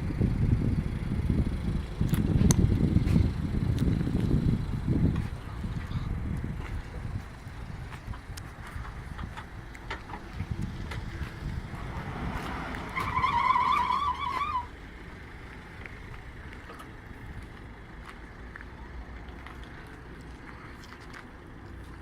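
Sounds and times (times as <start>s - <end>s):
utility vehicle rumble: 0.0s - 22.0s.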